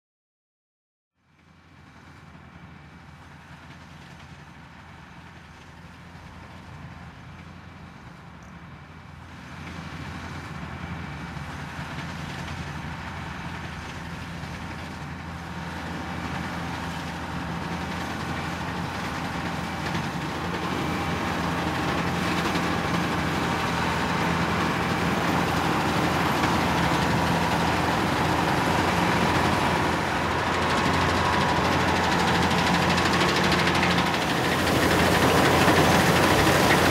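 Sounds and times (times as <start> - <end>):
combine harvester engine running: 1.3 - 36.9.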